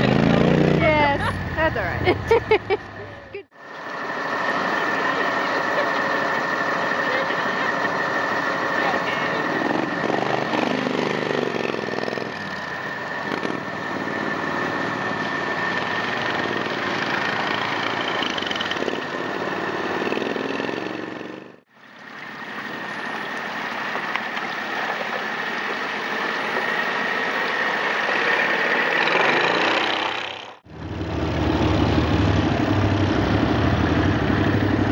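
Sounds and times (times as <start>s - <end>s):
atv engines running: 0.0s - 21.6s, 23.8s - 34.9s
steady high whine: 0.0s - 34.9s.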